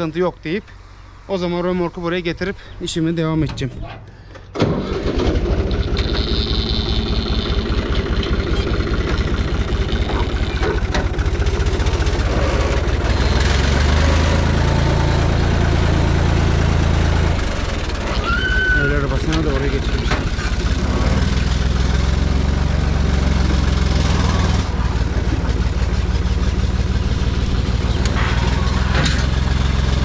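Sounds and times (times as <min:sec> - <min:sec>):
tractor engine running: 0:03.3 - 0:30.0.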